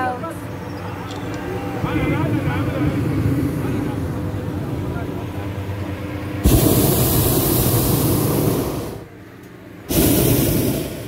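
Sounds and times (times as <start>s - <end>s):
propane burner blasts: 0.0s - 11.0s.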